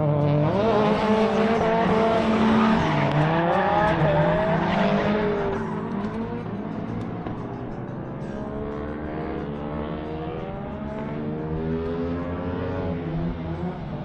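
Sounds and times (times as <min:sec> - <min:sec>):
go-kart engines running: 0:00.0 - 0:14.0.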